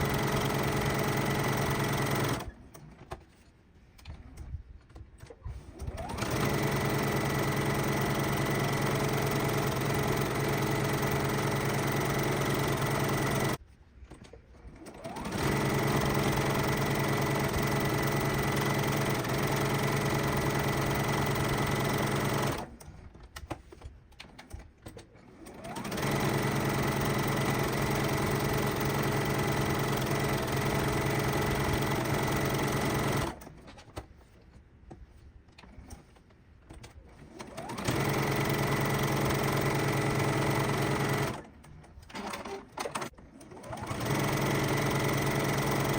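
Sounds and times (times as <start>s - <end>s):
sewing machine stitching: 0.0s - 2.9s, 5.2s - 13.6s, 14.6s - 23.1s, 24.2s - 33.8s, 36.8s - 45.9s.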